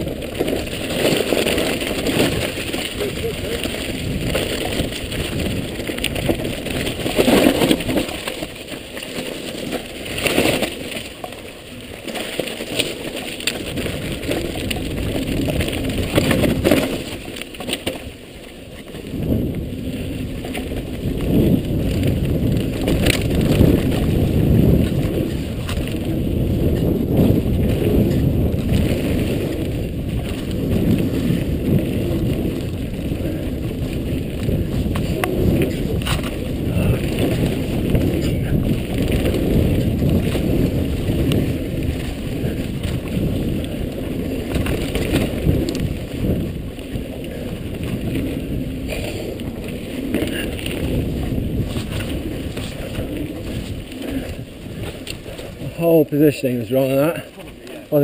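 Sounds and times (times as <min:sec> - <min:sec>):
bike tyres rumbling on dirt: 0:00.0 - 0:58.0
wind on microphone: 0:00.0 - 0:58.0.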